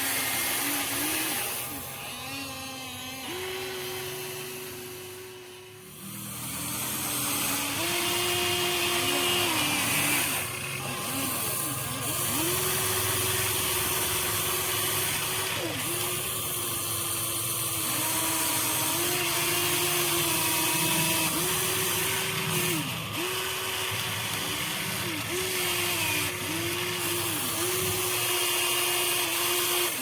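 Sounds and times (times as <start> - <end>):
small electric motors whining: 0.0 - 30.0.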